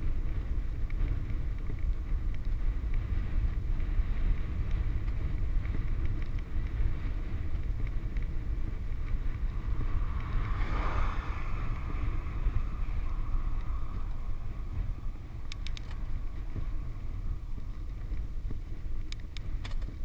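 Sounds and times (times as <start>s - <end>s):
road noise rush: 0.0s - 20.0s
wind buffeting microphone: 0.0s - 20.0s.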